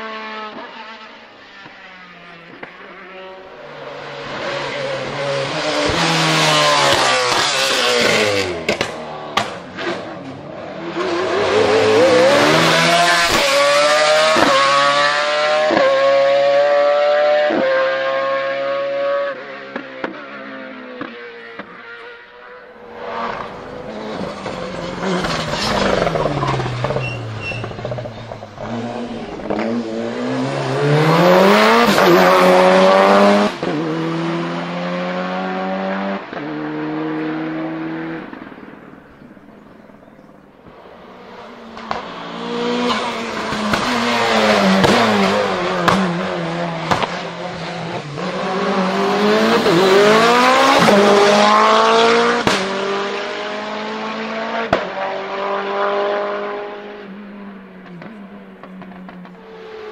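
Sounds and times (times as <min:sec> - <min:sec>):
race car engines accelerating: 0:00.0 - 0:59.9.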